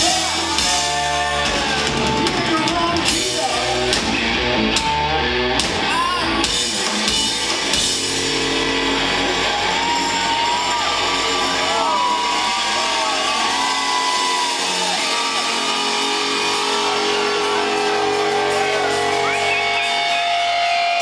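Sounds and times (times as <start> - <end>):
electric guitar bending notes: 0.0 - 21.0
rock band playing live: 0.0 - 21.0.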